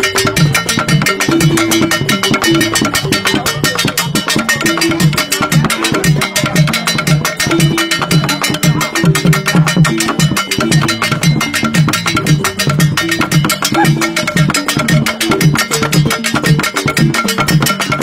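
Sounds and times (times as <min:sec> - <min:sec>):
xylophones playing fast pattern: 0:00.0 - 0:18.0.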